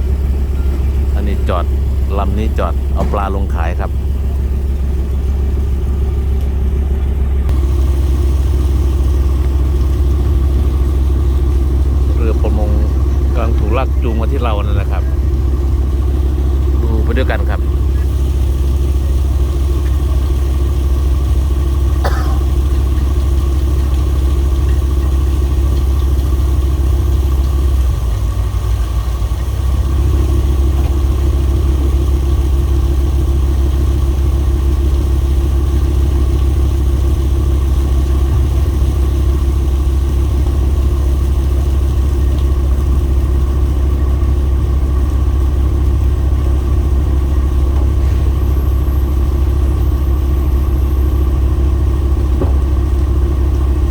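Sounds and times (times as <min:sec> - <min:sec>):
boat engine humming: 0:00.0 - 0:53.9.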